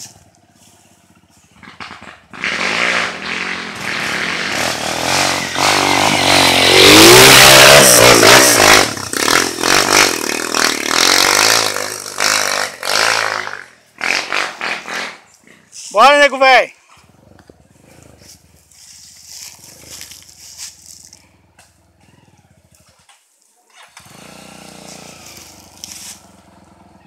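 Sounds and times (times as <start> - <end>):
dirt bike engine revving: 0.0 - 22.9, 23.8 - 27.0.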